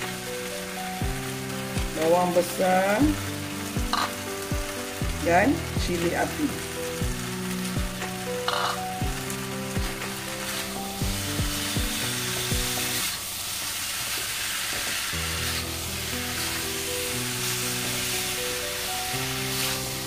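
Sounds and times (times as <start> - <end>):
food sizzling in a wok: 0.0 - 20.0
soft background music: 0.0 - 20.0.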